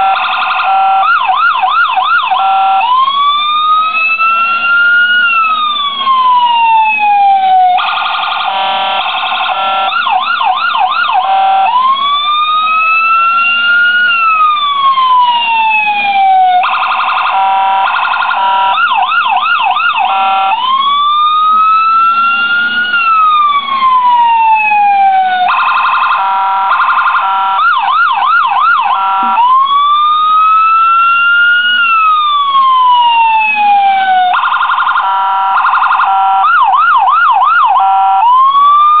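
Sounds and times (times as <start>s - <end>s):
electronic police siren: 0.0s - 39.0s.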